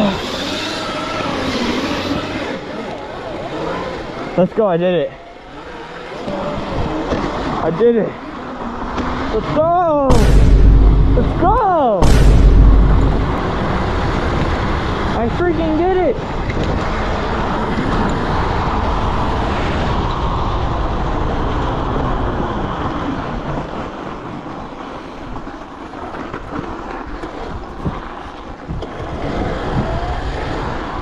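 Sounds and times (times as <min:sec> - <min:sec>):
wind and tyre noise: 0:00.0 - 0:31.0.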